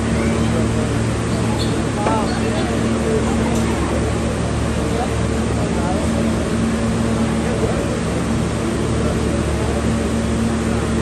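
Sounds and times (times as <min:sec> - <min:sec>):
constant low hum: 0:00.0 - 0:11.0
subway train wheels rumbling: 0:00.0 - 0:11.0.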